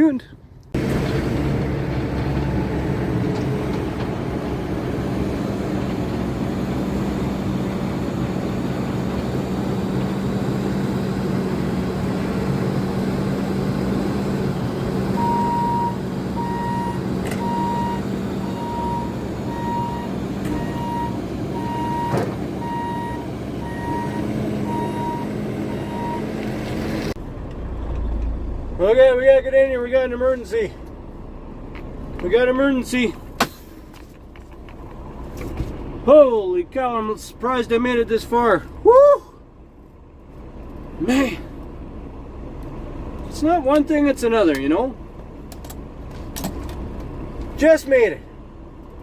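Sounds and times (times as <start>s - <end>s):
truck engine humming: 0.0s - 49.0s.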